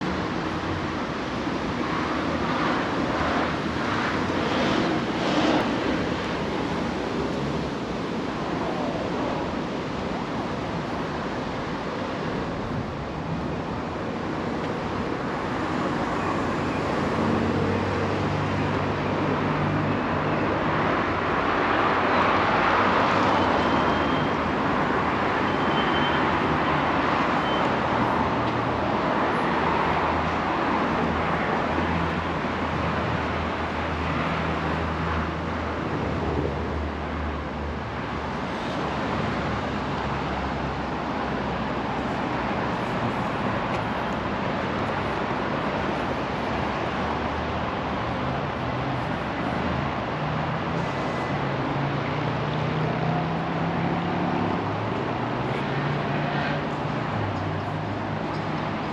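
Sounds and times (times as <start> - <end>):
road noise from passing cars: 0.0 - 58.9.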